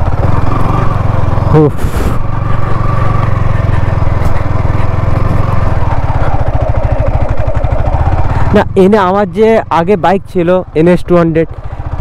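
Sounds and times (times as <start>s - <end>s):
motorcycle engine running steadily: 0.0s - 12.0s.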